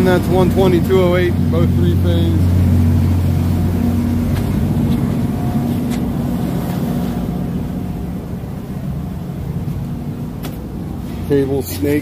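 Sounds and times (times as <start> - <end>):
generators droning: 0.0 - 12.0.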